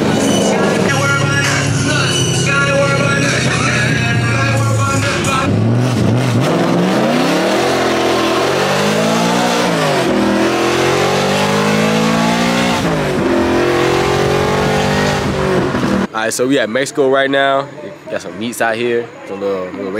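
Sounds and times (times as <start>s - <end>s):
car engine accelerating through gears: 0.0s - 16.1s.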